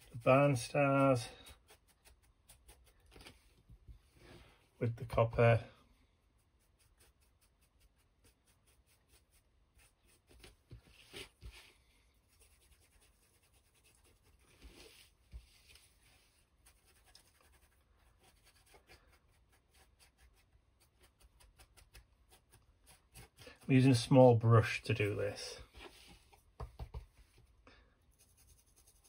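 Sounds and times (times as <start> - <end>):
small brush scratching and dabbing: 0.0 - 5.6, 6.2 - 26.5, 28.1 - 29.0.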